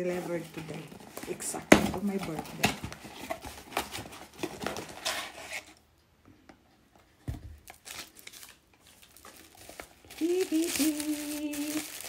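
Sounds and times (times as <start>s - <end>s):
paper packing wrap rustling: 0.0s - 5.8s, 7.6s - 12.0s.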